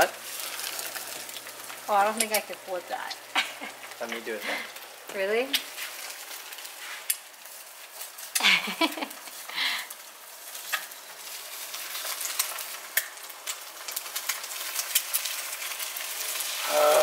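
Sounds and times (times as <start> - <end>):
eggs sizzling in a pan: 0.0 - 17.0.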